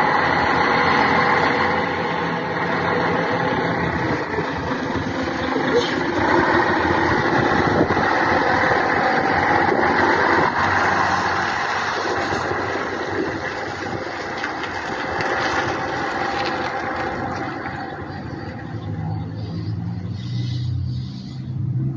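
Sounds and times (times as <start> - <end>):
bus diesel engine rumbling: 0.0 - 21.9.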